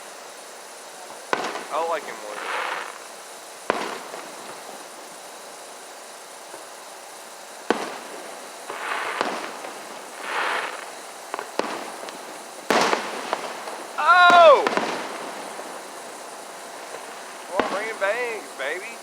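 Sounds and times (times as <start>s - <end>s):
fireworks hissing: 0.0s - 19.0s
fireworks bangs: 0.8s - 19.0s.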